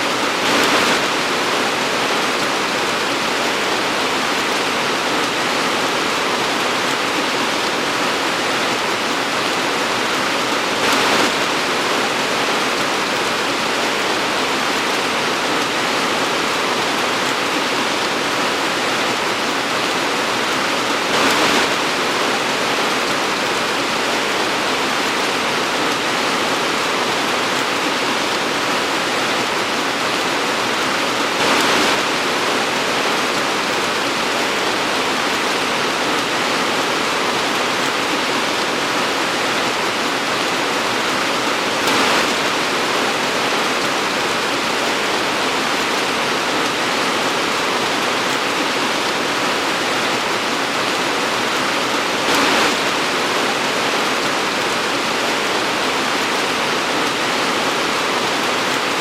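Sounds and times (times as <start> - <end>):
torrential rain pouring: 0.0 - 59.0.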